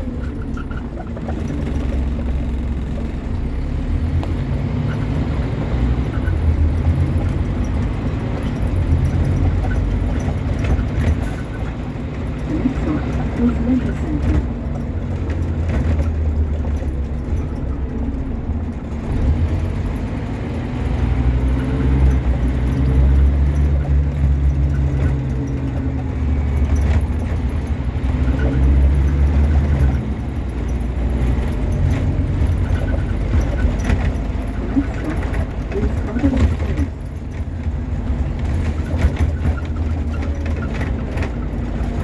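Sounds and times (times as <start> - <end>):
bus diesel engine pulling hard: 0.0 - 42.0
bus knocks and rattles: 0.0 - 42.0.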